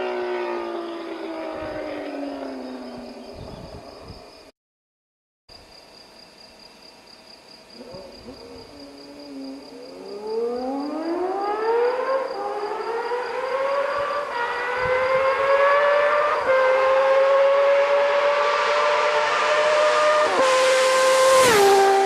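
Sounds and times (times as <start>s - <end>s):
motorcycle accelerating hard: 0.0s - 3.9s, 7.8s - 22.0s.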